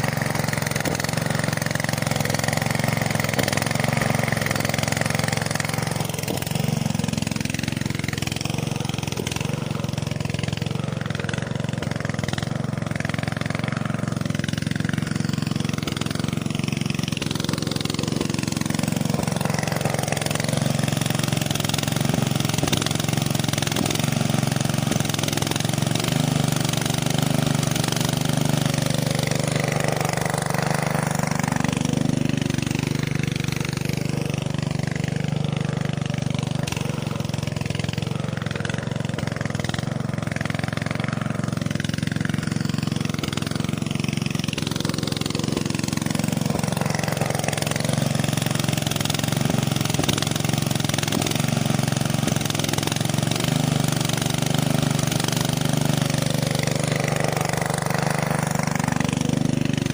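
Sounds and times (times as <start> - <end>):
small motor droning: 0.0 - 59.9.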